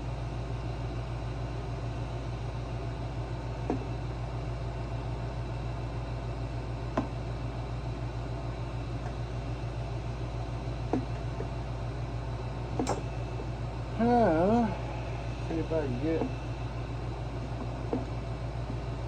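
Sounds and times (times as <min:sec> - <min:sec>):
low pulsing hum: 0:00.0 - 0:19.0.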